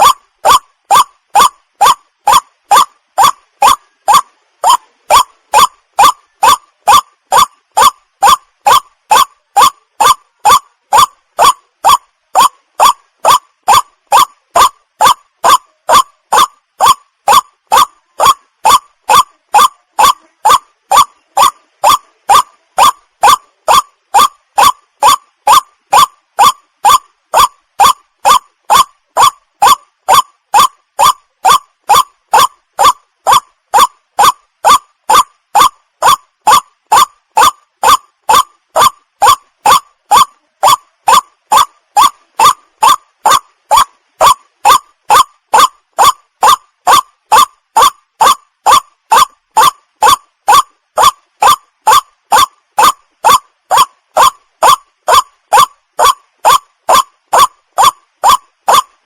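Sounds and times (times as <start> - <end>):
bird croaking call: 0.0 - 48.4.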